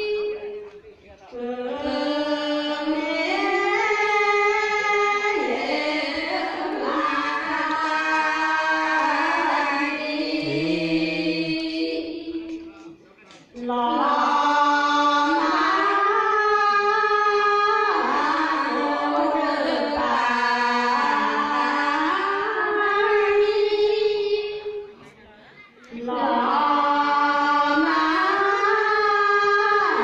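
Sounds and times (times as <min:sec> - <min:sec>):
women chanting in unison: 0:01.4 - 0:12.4, 0:13.6 - 0:24.9, 0:25.9 - 0:30.0.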